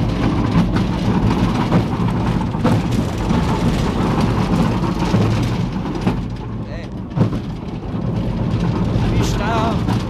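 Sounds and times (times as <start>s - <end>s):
half-track engine rumble: 0.0s - 10.0s
rattles and clanks: 0.0s - 10.0s.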